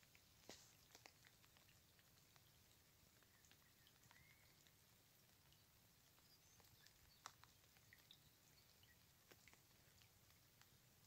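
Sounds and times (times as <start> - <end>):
light rain drops ticking: 0.0 - 11.0.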